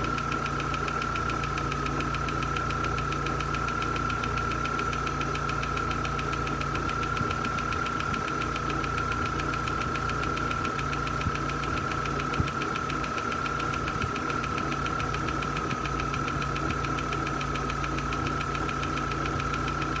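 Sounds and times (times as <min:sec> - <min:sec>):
car engine idling: 0:00.0 - 0:20.0
fast engine ticking: 0:00.0 - 0:20.0.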